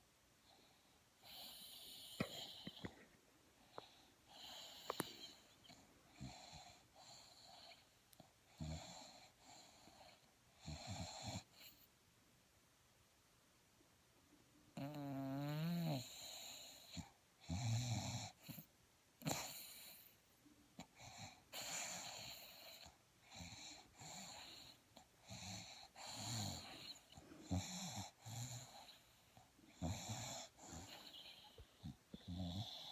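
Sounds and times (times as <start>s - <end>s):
wheezy snoring: 1.2s - 3.0s, 3.7s - 7.9s, 8.5s - 11.8s, 14.8s - 20.2s, 20.9s - 32.9s.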